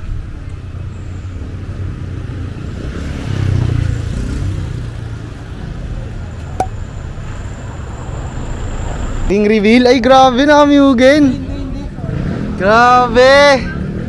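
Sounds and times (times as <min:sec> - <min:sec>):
rumble of street traffic: 0:00.0 - 0:14.0.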